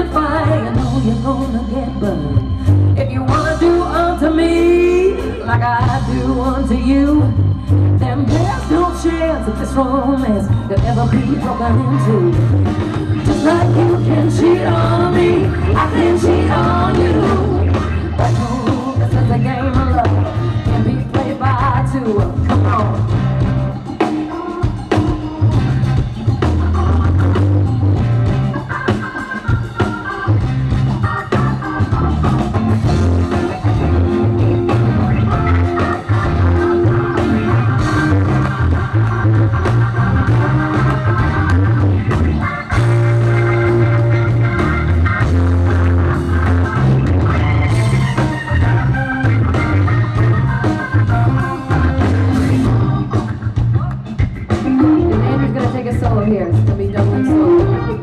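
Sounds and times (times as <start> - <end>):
drums: 0.0 - 58.0
guitar: 0.0 - 58.0
pulsing bass line: 0.0 - 58.0
organ: 0.1 - 58.0.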